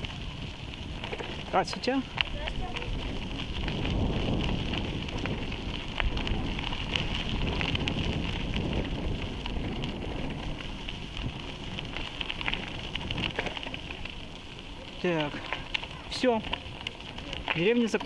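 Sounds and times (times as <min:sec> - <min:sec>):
bicycle tyres on gravel: 0:00.0 - 0:18.0
wind rumbling on microphone: 0:00.0 - 0:18.0.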